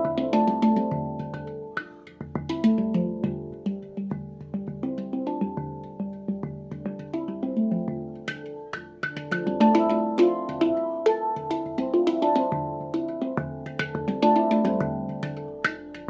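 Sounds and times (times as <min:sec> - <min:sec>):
handpan played by hand: 0:00.0 - 0:16.0.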